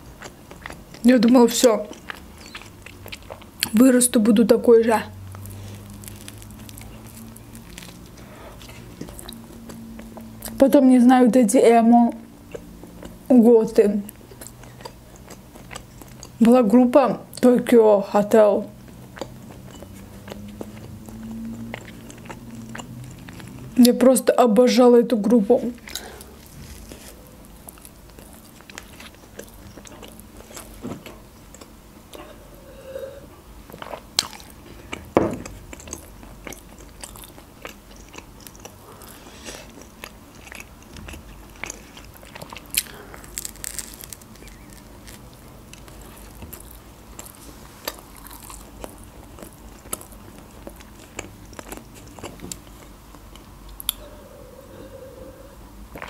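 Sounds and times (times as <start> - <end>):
person chewing bread crust: 0.0 - 3.8, 5.2 - 10.6, 12.2 - 13.3, 14.1 - 16.4, 18.7 - 23.8, 25.8 - 54.2.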